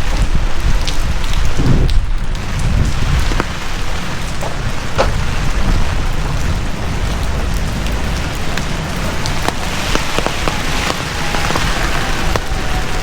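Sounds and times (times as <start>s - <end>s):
heavy rain falling: 0.0s - 13.0s
deep rumble: 0.1s - 13.0s.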